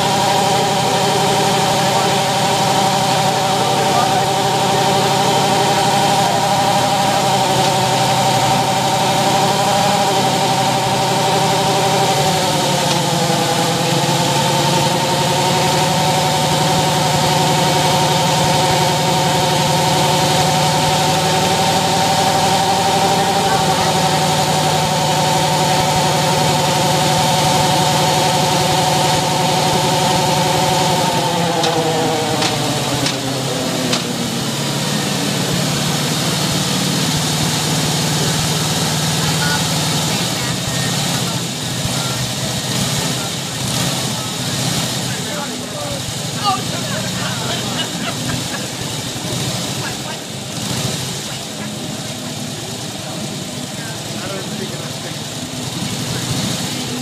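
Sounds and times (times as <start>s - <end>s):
motorcycle engine running on rollers: 0.0s - 57.0s.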